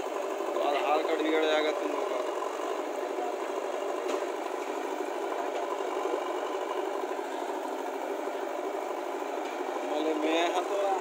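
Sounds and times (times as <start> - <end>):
diesel engines running: 0.0 - 11.0.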